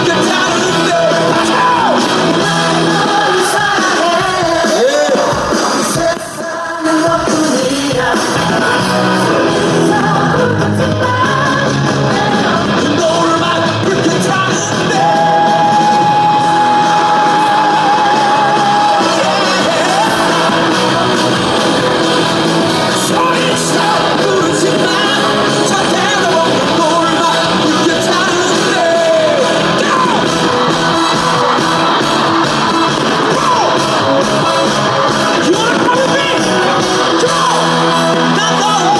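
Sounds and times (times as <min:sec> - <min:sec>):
song with singing over a band: 0:00.0 - 0:38.9.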